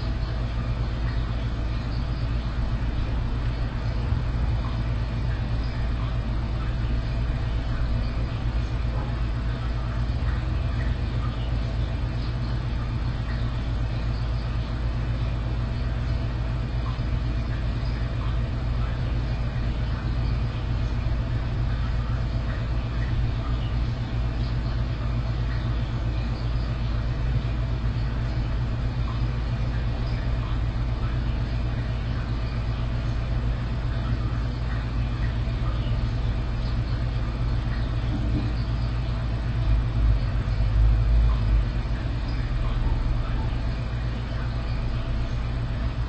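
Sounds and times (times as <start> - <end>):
low rumbling hum: 0.0 - 46.0.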